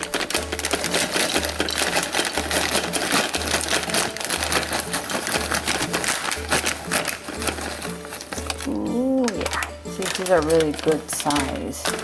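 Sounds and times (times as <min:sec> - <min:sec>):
nuts rattling into glass jar: 0:00.0 - 0:12.0.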